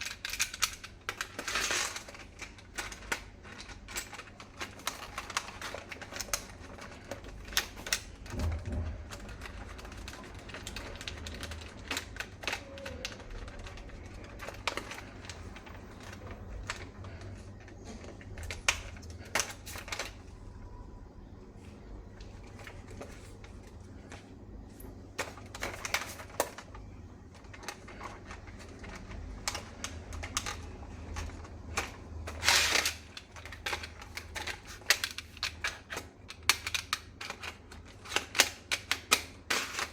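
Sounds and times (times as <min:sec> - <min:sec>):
low steady hum: 0:00.0 - 0:38.5.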